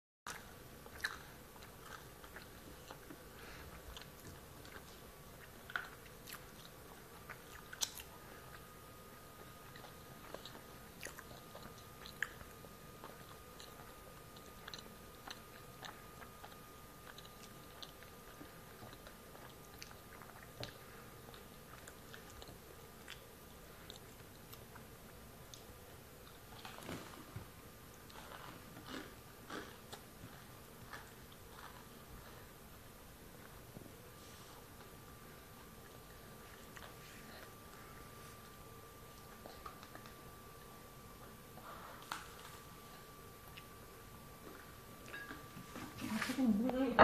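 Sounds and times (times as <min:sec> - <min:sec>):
faint steady hum: 0:00.3 - 0:47.0.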